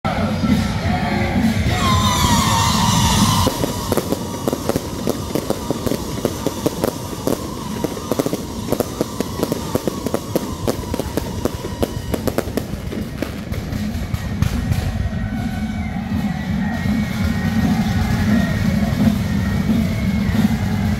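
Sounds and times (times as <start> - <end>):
music: 0.0 - 20.9
fireworks crackling and popping: 1.6 - 20.9.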